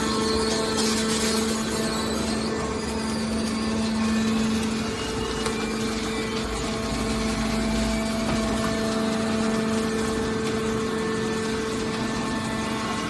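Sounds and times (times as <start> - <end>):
hydraulic baler humming: 0.0 - 13.0.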